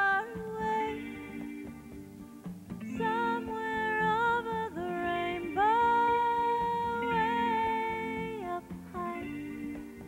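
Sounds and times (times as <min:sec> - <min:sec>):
soft sustained backing music: 0:00.0 - 0:10.0.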